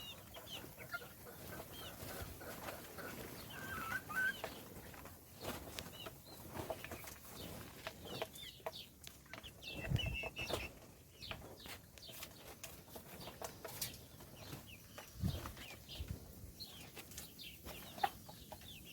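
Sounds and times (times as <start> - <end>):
baby chicks peeping: 0.0 - 18.9.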